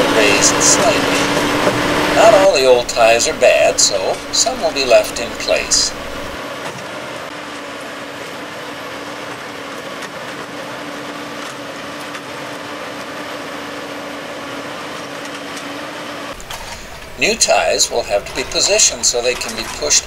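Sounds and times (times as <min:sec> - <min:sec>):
rail machine engine and hydraulics: 0:00.0 - 0:20.0.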